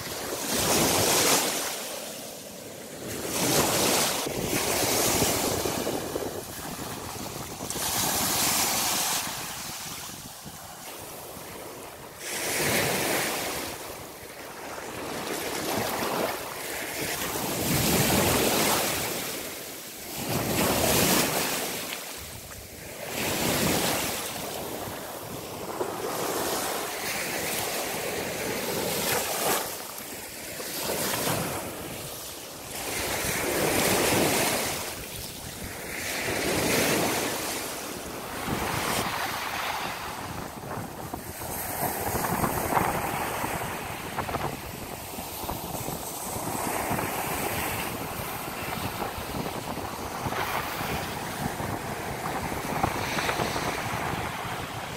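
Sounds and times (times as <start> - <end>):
small waves washing up a beach: 0.0 - 54.9.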